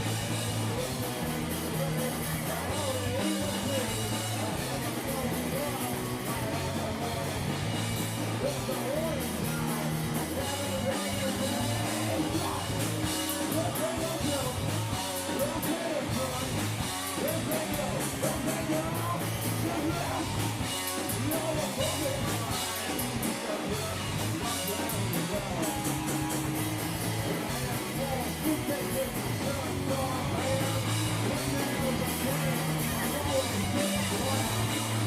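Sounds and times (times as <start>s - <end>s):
live rock band playing: 0.0s - 35.0s
person singing: 0.0s - 35.0s.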